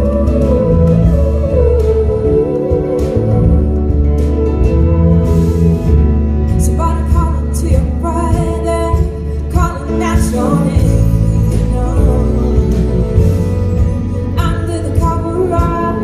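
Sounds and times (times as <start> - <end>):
woman singing: 0.0 - 4.6, 6.5 - 16.0
band with bass and drums: 0.0 - 16.0.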